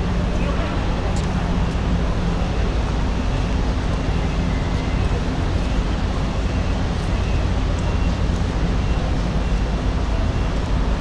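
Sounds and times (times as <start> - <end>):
ship machinery rumble and hum: 0.0 - 11.0.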